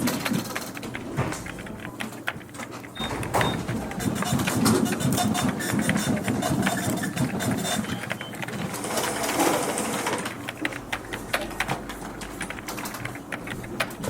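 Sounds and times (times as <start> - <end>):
printer motor chattering: 0.0 - 14.0.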